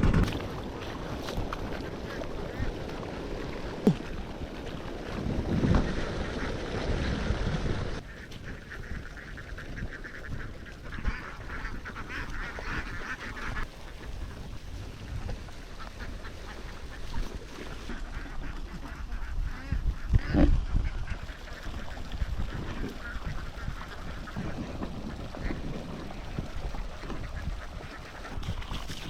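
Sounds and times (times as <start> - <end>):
ducks quacking: 0.1 - 4.7, 5.5 - 14.5, 15.1 - 29.0.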